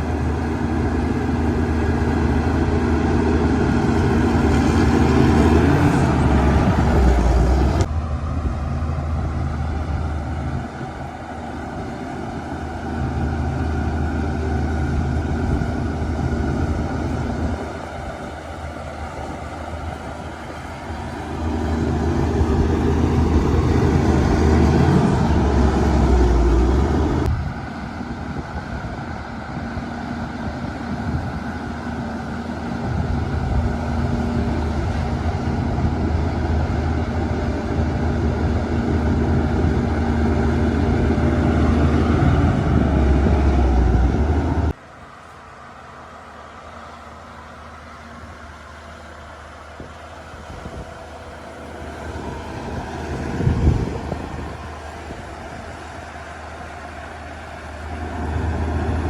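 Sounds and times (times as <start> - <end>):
bulldozer diesel engine working: 0.0 - 59.0.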